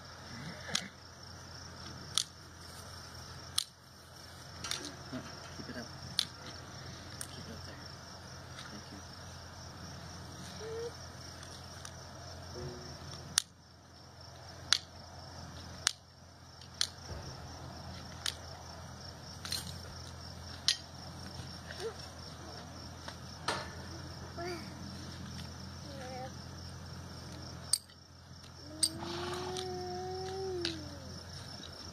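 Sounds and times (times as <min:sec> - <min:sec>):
crickets trilling: 0:00.0 - 0:31.9.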